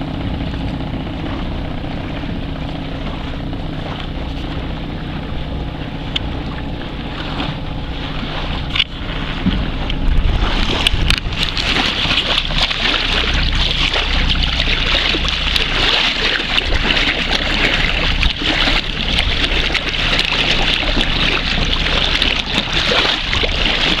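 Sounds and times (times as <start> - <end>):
sea water lapping and splashing: 0.0 - 24.0
wind rumbling on microphone: 0.0 - 24.0.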